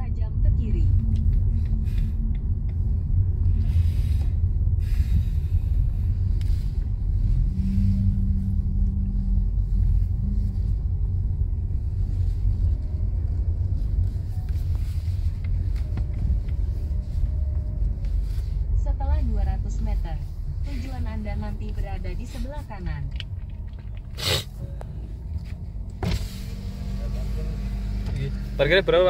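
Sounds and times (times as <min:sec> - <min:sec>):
steady hum: 0:00.0 - 0:28.8
car engine and tyre noise: 0:00.0 - 0:29.0.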